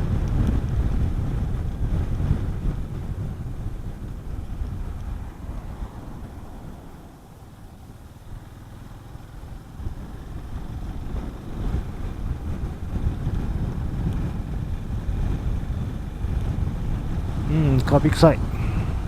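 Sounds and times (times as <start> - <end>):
motorcycle engine running: 0.0 - 19.0
wind noise on microphone: 0.0 - 19.0.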